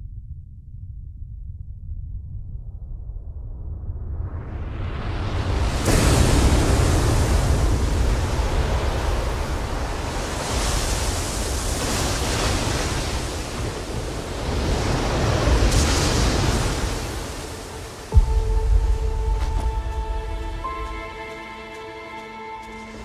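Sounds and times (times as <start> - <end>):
deep rumble of surf: 2.3 - 21.0
wind: 3.0 - 23.0
waves breaking and rushing: 4.5 - 23.0.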